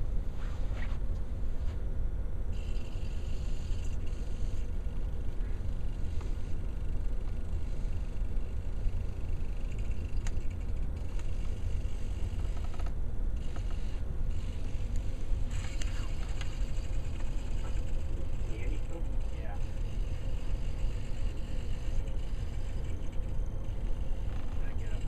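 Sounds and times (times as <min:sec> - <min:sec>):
steady low rumble: 0:00.0 - 0:25.0
servo motors whirring: 0:02.6 - 0:04.7, 0:05.8 - 0:25.0.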